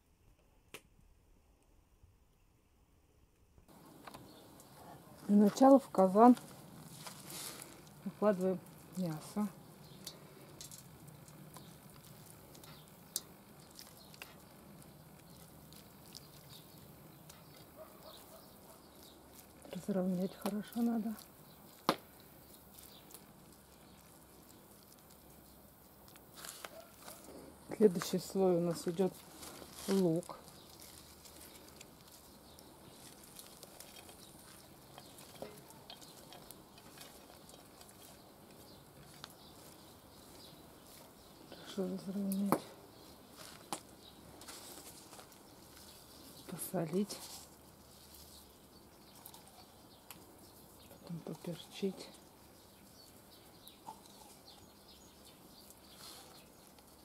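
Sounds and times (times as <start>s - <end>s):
onion rustling and clicking: 3.8s - 57.0s.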